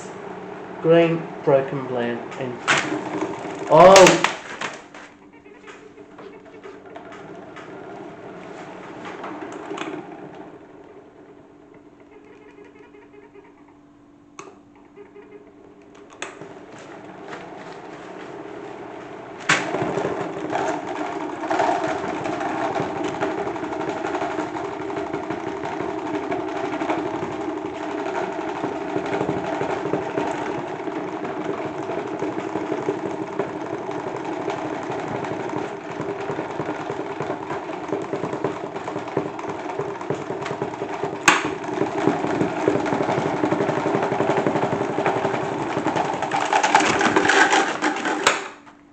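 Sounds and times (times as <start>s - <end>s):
loud steady spinning: 0.0s - 48.9s
salad spinner whirring: 0.0s - 48.9s.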